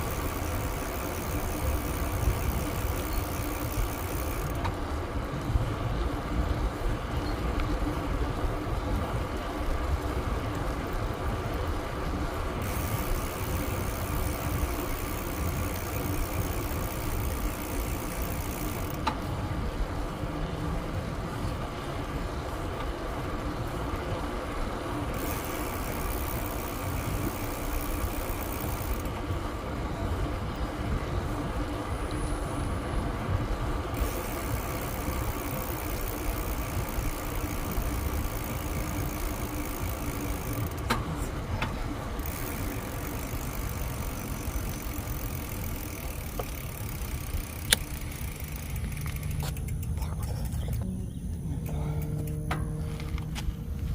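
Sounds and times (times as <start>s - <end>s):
bicycle tyres rolling on pavement: 0.0s - 53.9s
faint constant whir: 0.0s - 53.9s.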